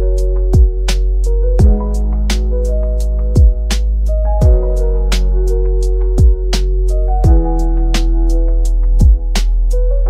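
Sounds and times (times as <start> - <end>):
lo-fi music with beat: 0.0 - 10.0.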